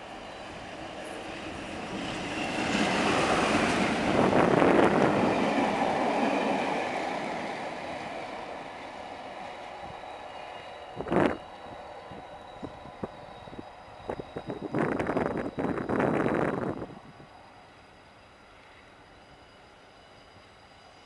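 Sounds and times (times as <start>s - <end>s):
diesel locomotive passing: 0.0s - 21.0s.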